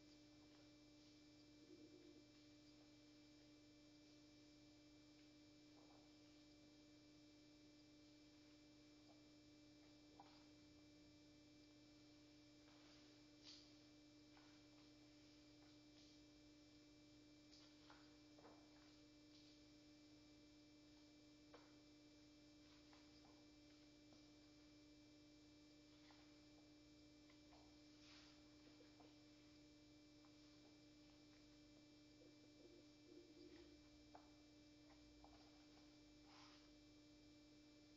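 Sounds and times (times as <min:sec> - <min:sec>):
faint electrical hum: 0:00.0 - 0:37.9.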